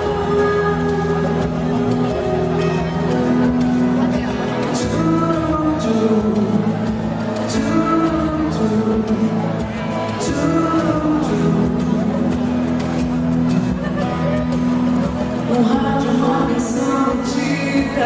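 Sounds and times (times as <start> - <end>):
live band playing pop ballad: 0.0 - 18.0.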